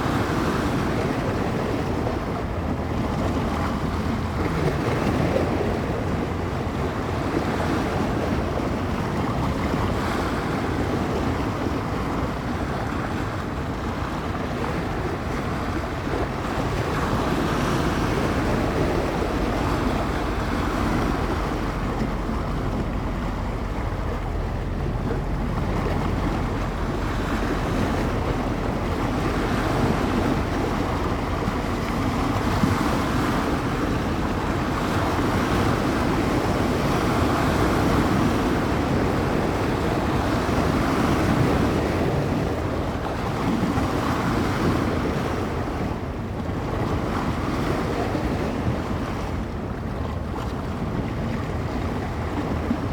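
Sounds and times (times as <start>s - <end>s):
waves breaking on shore: 0.0s - 52.9s
wind buffeting microphone: 0.0s - 52.9s.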